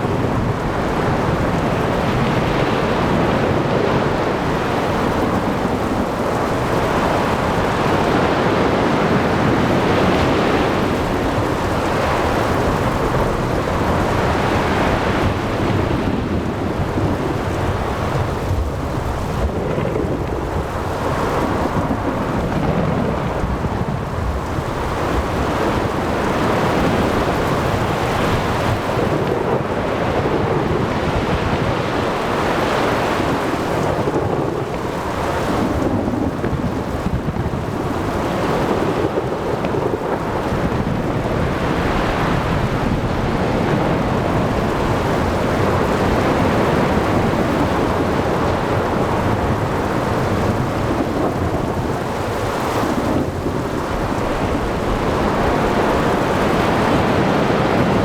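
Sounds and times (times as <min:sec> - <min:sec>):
waves: 0:00.0 - 0:58.0
wind: 0:00.0 - 0:58.0.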